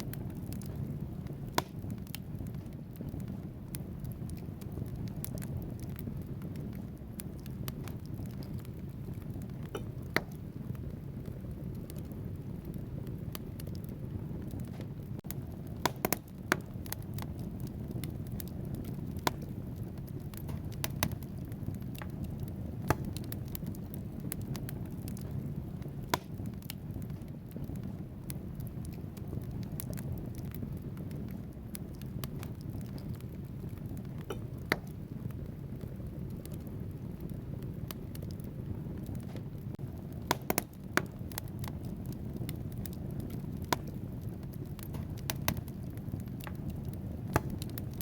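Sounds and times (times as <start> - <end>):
fire rumbling: 0.0 - 48.0
logs crackling and popping: 0.0 - 48.0.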